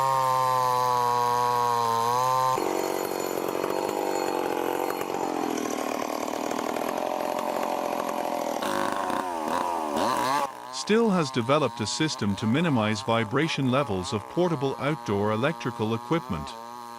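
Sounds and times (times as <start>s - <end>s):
chainsaw cutting through log: 0.0s - 16.9s.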